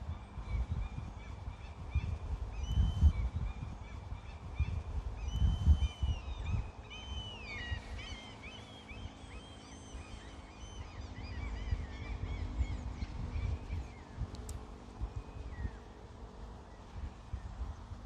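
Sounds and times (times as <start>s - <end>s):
steady low rumble: 0.0s - 18.0s
wild birds chirping: 0.0s - 18.0s.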